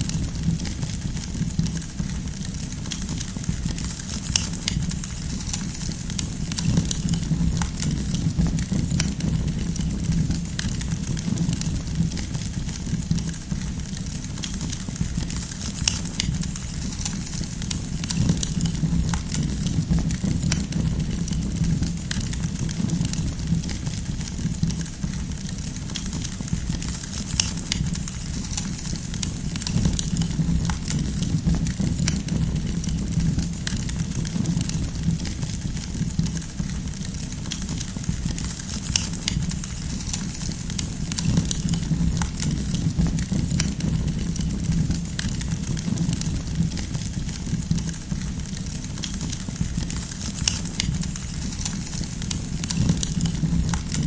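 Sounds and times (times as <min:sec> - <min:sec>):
firewood crackling and popping: 0:00.0 - 0:54.0
low fire rumble: 0:00.0 - 0:54.0.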